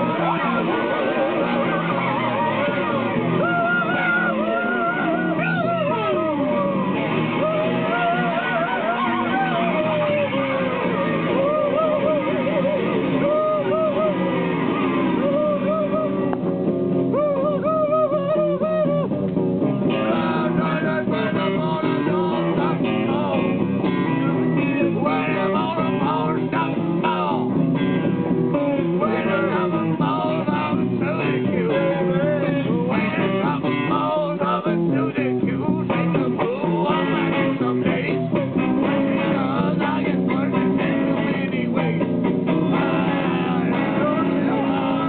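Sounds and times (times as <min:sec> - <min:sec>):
person singing: 0:00.0 - 0:19.2, 0:19.8 - 0:45.0
bluesy guitars playing: 0:00.0 - 0:45.0.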